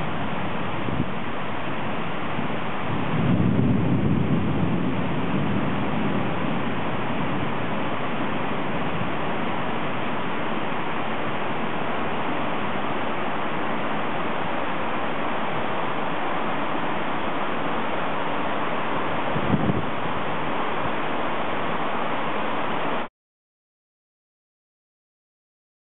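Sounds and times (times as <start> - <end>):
heavy rain falling: 0.0 - 23.1.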